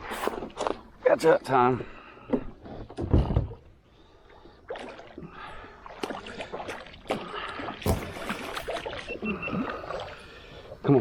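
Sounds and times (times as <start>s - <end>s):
water sloshing around kayak: 0.0s - 11.0s.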